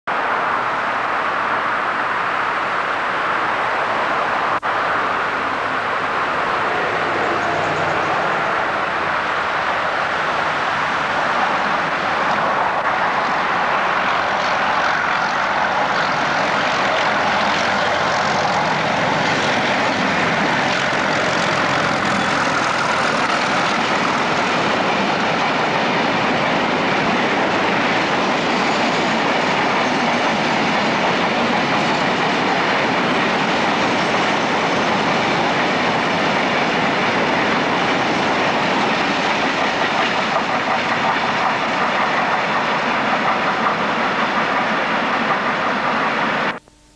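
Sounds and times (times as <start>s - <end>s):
diesel locomotive engines: 0.1s - 46.9s
wagons rolling on rails: 5.4s - 46.5s.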